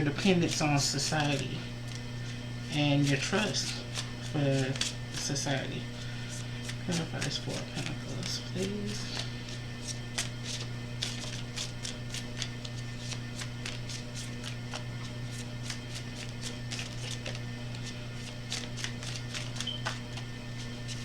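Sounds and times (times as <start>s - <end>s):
cards being shuffled: 0.0s - 21.0s.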